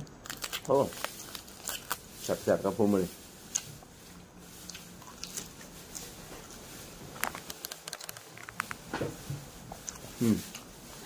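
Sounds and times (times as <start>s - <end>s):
chewing raw cabbage: 0.0s - 8.8s, 9.6s - 11.0s.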